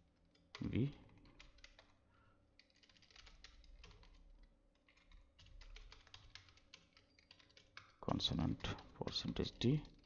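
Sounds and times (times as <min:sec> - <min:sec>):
faint keyboard typing: 0:00.0 - 0:10.0.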